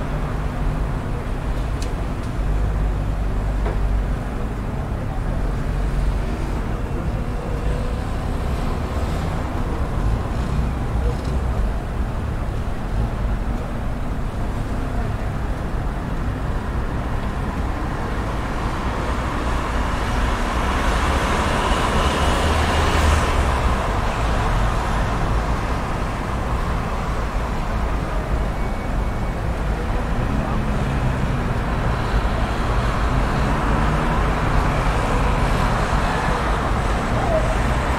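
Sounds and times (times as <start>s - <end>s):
road traffic rumble: 0.0s - 37.9s.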